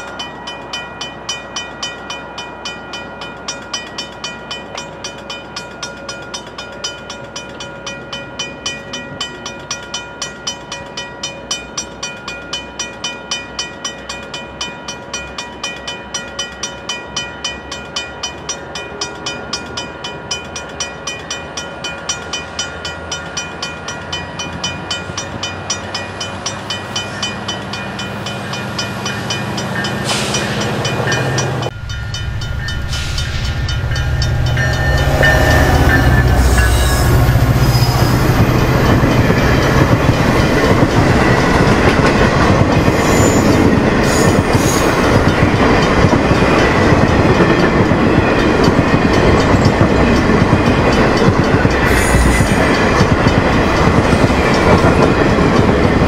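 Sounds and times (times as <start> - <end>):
locomotive bell ringing: 0.0 - 56.0
train cars rumbling and clacking: 0.0 - 56.0.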